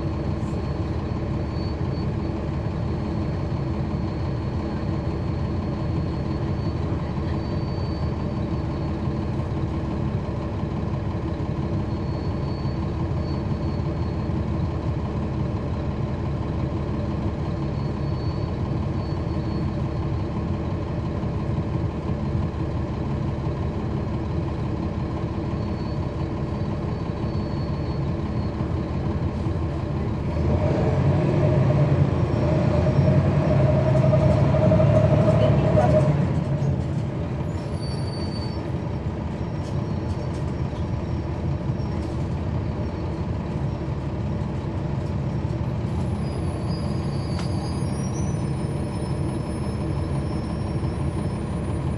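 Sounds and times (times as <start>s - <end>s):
bus diesel engine idling: 0.0s - 51.9s.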